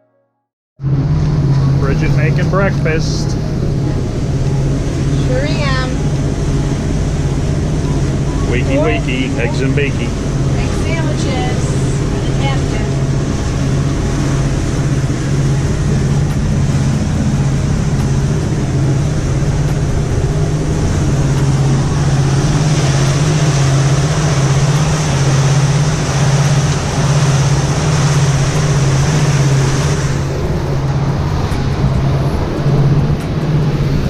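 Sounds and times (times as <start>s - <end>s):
boat engine low drone: 0.0s - 34.0s
steady rushing noise: 0.8s - 34.0s.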